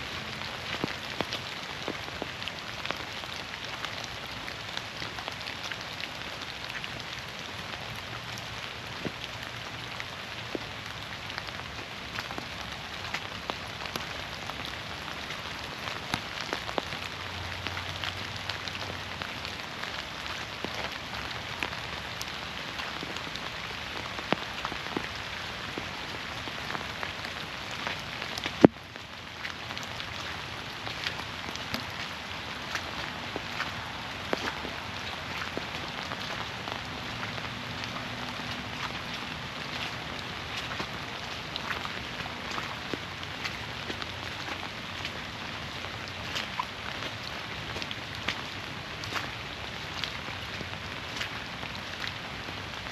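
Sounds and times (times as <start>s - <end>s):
rain dripping through forest: 0.0s - 52.9s.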